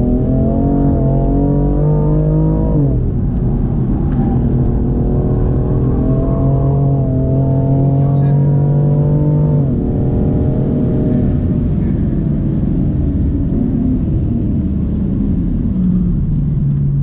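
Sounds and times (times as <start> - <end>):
car engine in cabin: 0.0 - 17.0
road and tyre noise: 0.0 - 17.0.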